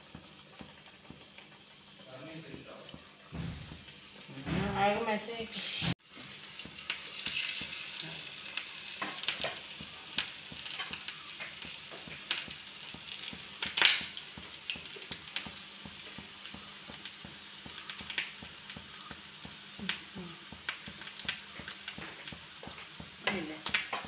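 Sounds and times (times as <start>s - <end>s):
oil crackles and pops: 0.0s - 5.1s, 5.9s - 24.0s
deep-frying sizzle: 0.0s - 24.0s.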